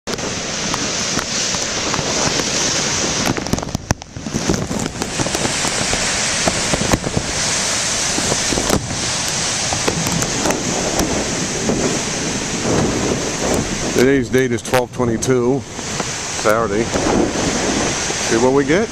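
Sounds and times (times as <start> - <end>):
surf: 0.0 - 18.9
wind buffeting plastic bag: 0.1 - 18.9.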